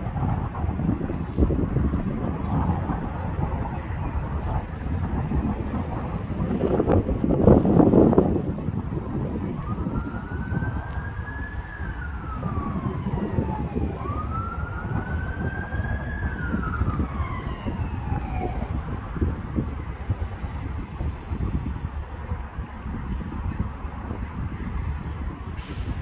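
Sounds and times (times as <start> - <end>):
emergency siren wailing: 0.0 - 21.8
wind rumble on microphone: 0.0 - 26.0.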